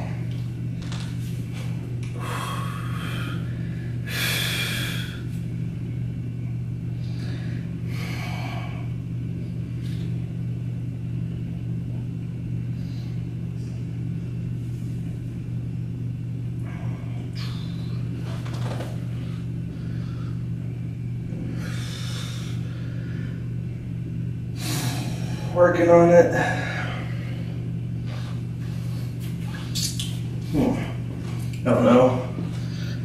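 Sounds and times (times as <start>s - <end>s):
low hum: 0.0s - 33.0s.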